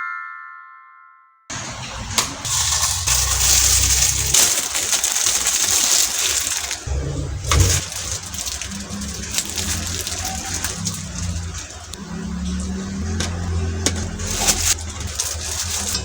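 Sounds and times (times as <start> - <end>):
steady low hum: 1.5 - 16.0
water pouring: 1.5 - 16.0.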